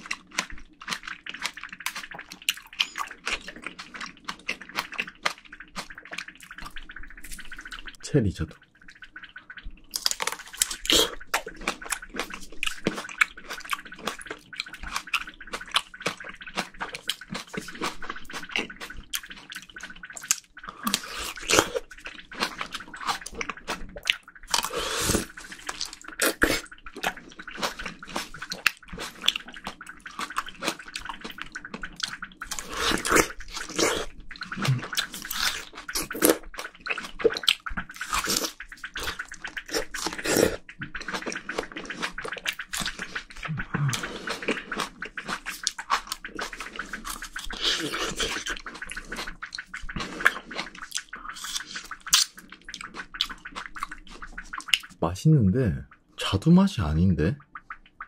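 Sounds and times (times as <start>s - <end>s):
biting and chewing juicy fruit: 0.0s - 8.0s, 9.9s - 55.0s
juice slurps: 0.0s - 55.0s.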